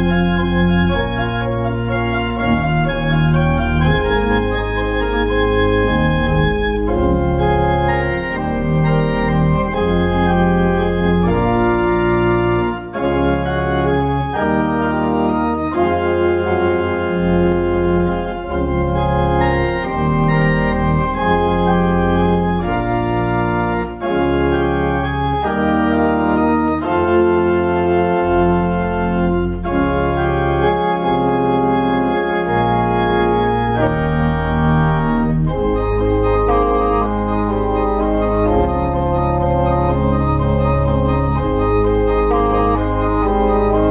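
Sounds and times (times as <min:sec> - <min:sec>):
organ playing chords: 0:00.0 - 0:43.9.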